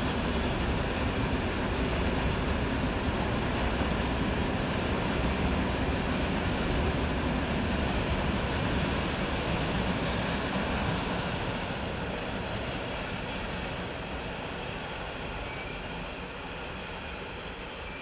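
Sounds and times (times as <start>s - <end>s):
freight train wheels on rails: 0.0s - 18.0s.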